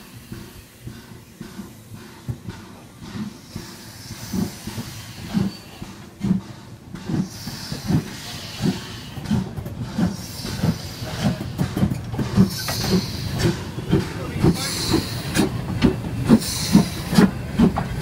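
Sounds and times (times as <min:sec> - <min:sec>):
steam hissing: 0:00.0 - 0:18.0
steam locomotive exhaust chuffs: 0:00.0 - 0:18.0.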